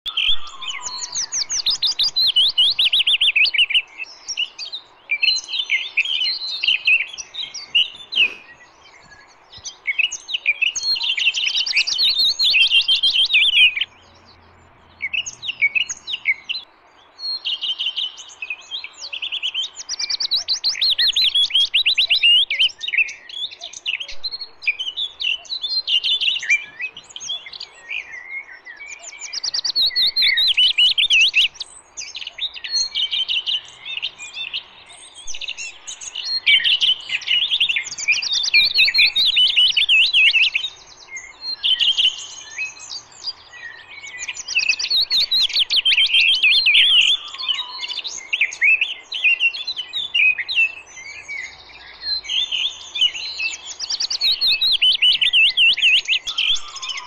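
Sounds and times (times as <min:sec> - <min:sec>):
recorded songbird chirping: 0:00.0 - 0:57.0.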